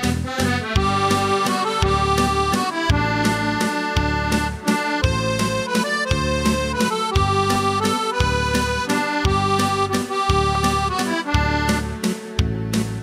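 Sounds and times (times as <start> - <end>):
accordion music: 0.0 - 13.0.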